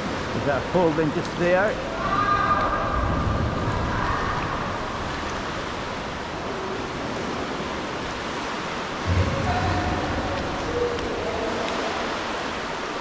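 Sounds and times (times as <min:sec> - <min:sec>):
sea water rushing: 0:00.0 - 0:13.0.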